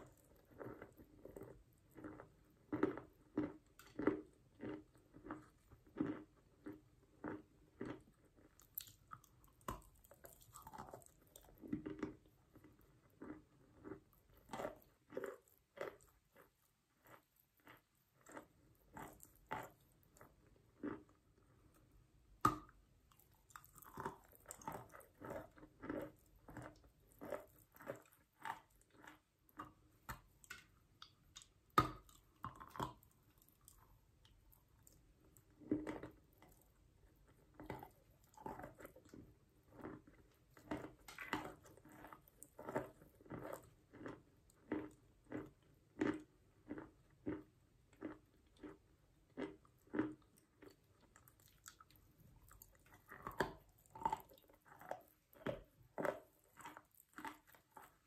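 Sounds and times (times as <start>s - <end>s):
crunching chews: 0.0s - 58.0s.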